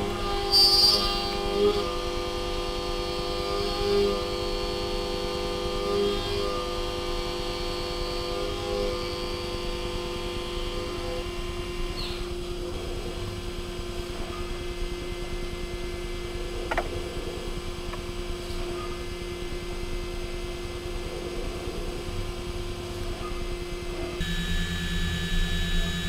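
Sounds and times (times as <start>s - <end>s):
milling machine hum: 0.0s - 26.0s.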